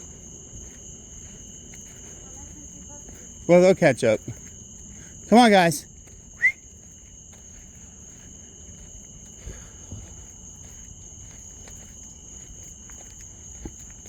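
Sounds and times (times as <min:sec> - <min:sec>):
night insects chorus: 0:00.0 - 0:14.0
soft footsteps on trail: 0:00.0 - 0:14.0.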